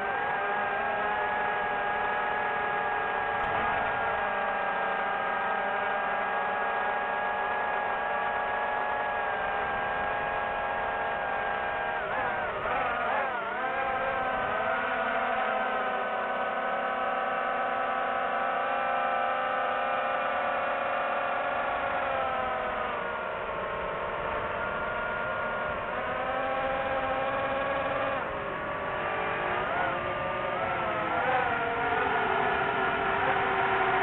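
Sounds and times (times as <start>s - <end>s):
drone propellers whining: 0.0s - 16.5s, 21.7s - 34.0s.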